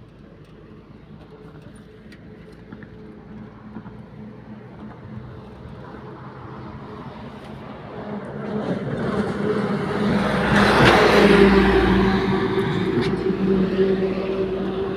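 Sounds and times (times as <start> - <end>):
motor engine humming: 0.0 - 14.9.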